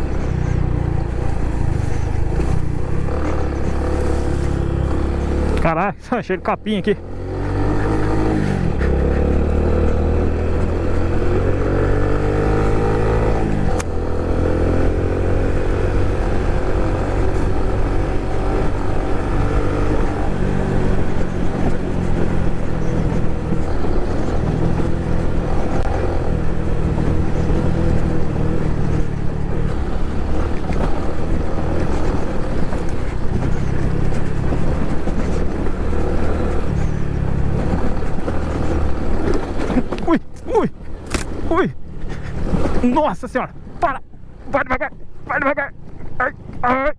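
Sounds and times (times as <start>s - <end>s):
small motorcycle engine revving: 0.0s - 5.7s, 7.0s - 42.9s.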